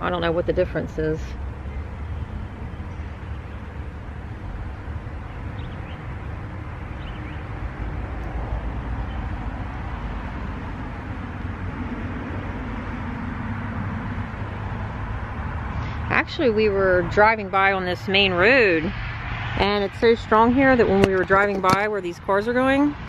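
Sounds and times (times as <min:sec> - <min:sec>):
road traffic going by: 0:00.0 - 0:23.0
vehicle hum: 0:00.0 - 0:23.0.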